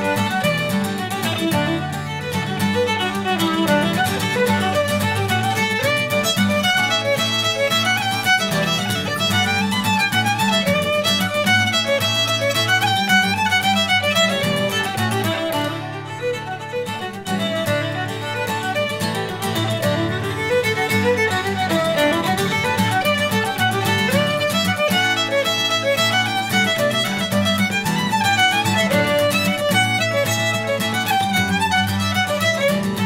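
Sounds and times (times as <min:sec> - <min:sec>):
fiddle melody: 0:00.0 - 0:33.0
strummed acoustic guitar: 0:00.0 - 0:33.0.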